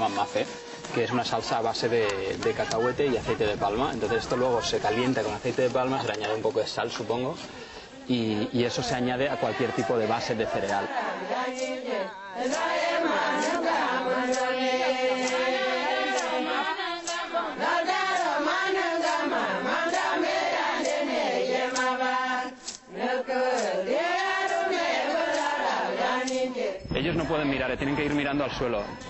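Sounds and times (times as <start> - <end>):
voices singing a chant: 0.0 - 7.3, 8.0 - 29.0.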